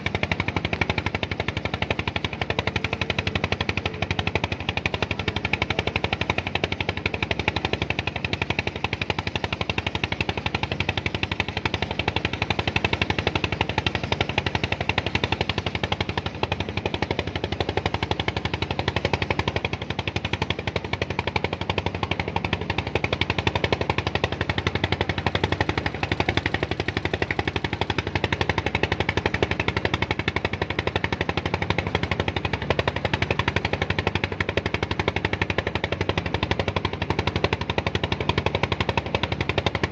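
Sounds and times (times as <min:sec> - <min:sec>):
small engine chugging: 0:00.0 - 0:39.9.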